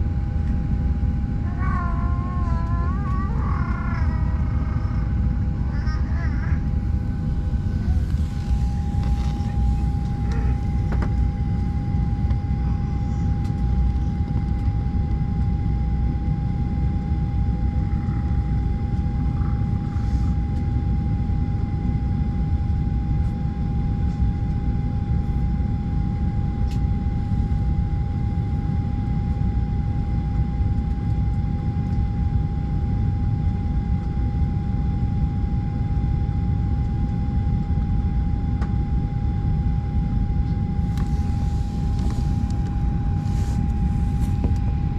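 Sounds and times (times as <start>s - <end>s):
airliner cabin engine rumble: 0.0s - 44.9s
constant whine: 0.0s - 44.9s.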